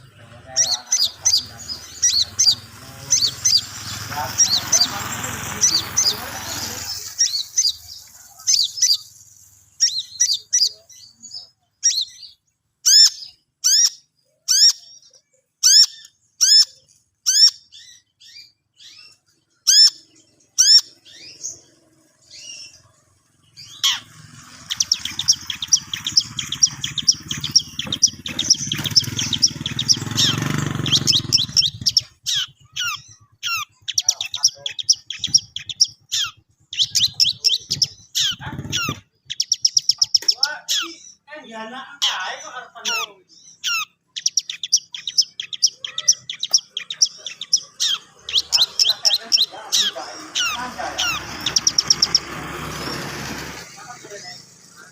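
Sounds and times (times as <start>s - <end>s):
bird singing sharp notes: 0.0s - 41.3s, 42.0s - 54.9s.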